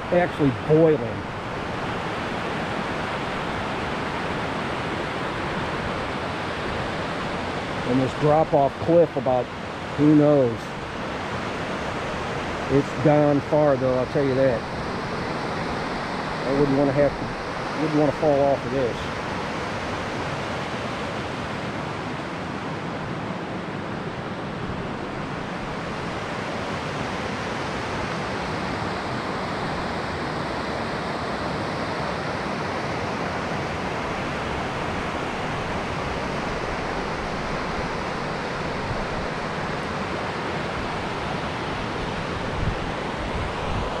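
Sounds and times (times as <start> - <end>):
whitewater rushing over rocks: 0.0 - 44.0.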